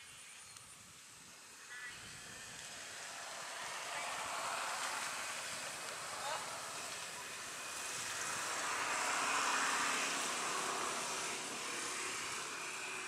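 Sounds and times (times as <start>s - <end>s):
distant engine passing: 1.4s - 13.0s.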